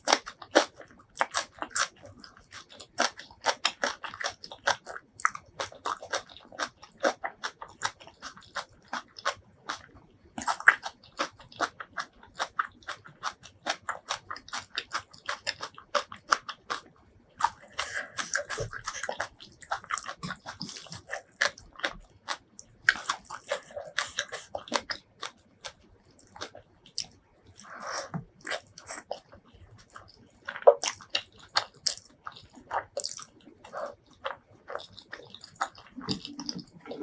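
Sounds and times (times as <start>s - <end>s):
chewing and biting food: 0.0s - 37.0s.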